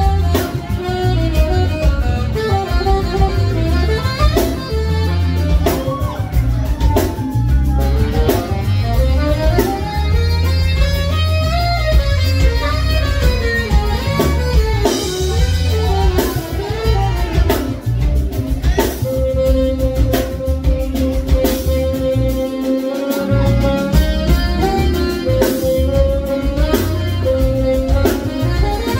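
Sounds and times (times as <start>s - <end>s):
funk band playing: 0.0s - 28.9s
saxophone solo: 0.0s - 28.9s.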